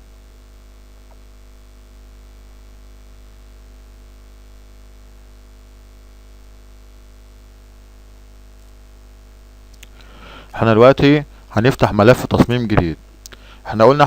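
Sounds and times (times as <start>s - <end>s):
electrical hum with hiss: 0.0s - 14.0s.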